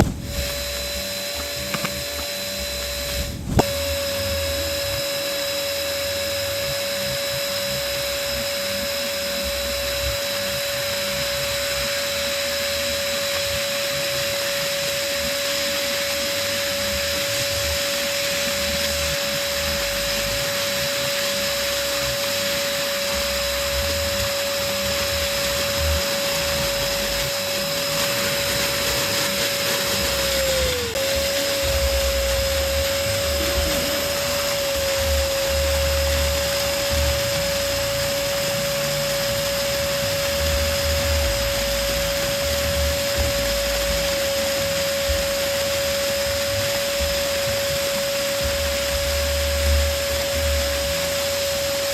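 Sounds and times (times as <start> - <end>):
electric balloon pump humming: 0.0 - 51.9.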